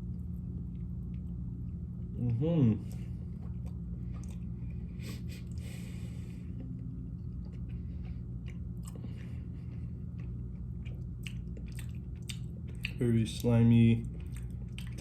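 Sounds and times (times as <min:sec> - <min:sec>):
man chewing wet food: 0:00.0 - 0:15.0
steady low hum: 0:00.0 - 0:15.0.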